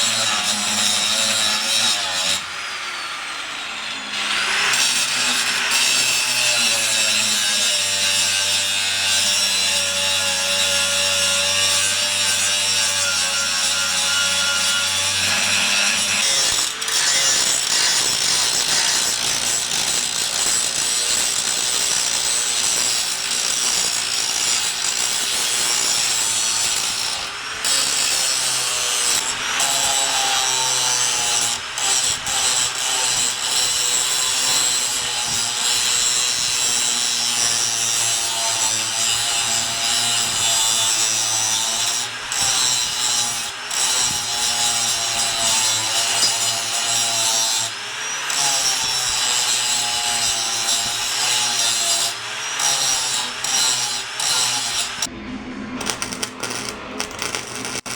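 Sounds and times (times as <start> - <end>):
power grinder grinding metal: 0.0 - 55.1, 55.8 - 57.9.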